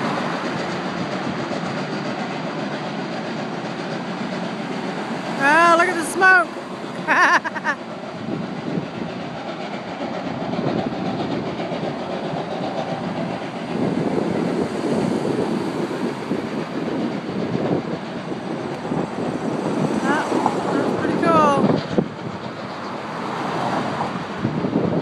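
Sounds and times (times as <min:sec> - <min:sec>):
steam train rumbling past: 0:00.0 - 0:25.0.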